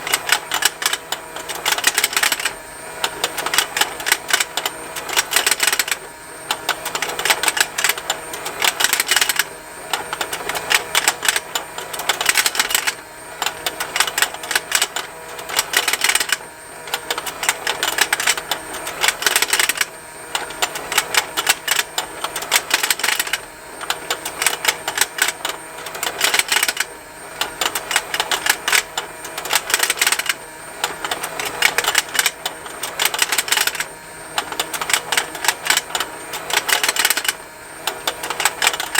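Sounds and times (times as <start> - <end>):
toy motor and gears ticking: 0.0 - 38.9.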